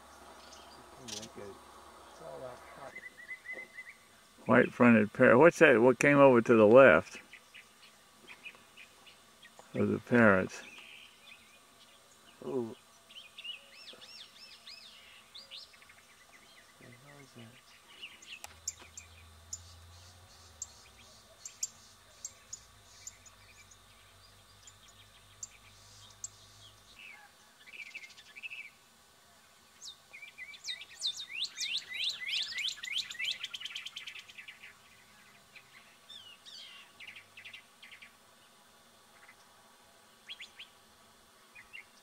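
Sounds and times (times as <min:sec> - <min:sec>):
birds chipping and trilling: 0:00.0 - 0:04.7, 0:06.8 - 0:42.0.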